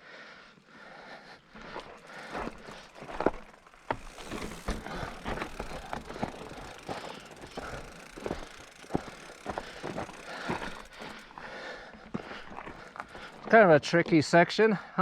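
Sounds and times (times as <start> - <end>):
mountain bike rattling on rough trail: 0.4 - 14.5
low rumble of tyres: 0.6 - 13.5.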